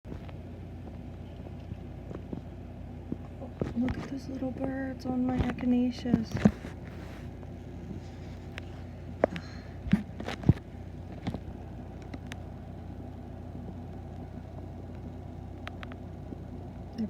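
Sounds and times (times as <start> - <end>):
steady low rumble: 0.1 - 17.0.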